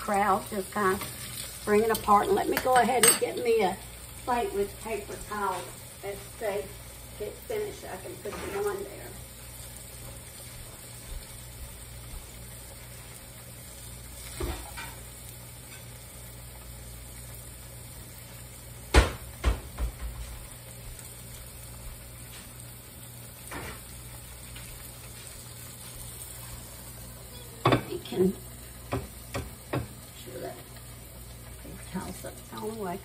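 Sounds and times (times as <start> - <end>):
squash frying in hot oil: 0.0 - 33.0.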